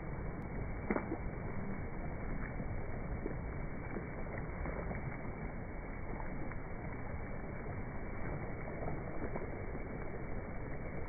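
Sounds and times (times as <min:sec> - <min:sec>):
muffled rumble of wind and surf: 0:00.0 - 0:11.0.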